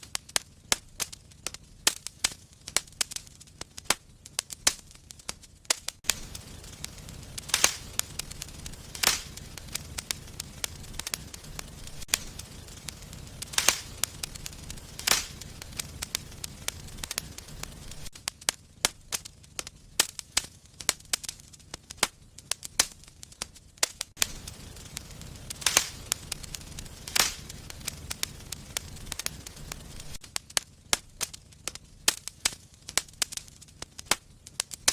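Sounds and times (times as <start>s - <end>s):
low rumble of flames: 0.0s - 34.9s
wood fire crackling and popping: 0.0s - 34.9s.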